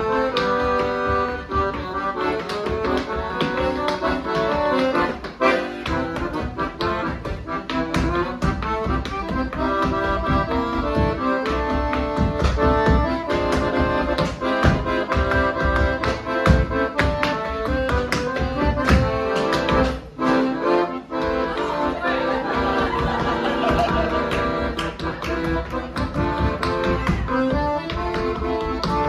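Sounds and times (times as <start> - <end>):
dancer's feet tapping the floor: 0.0 - 29.0
piano accordion playing a tune: 0.0 - 29.0.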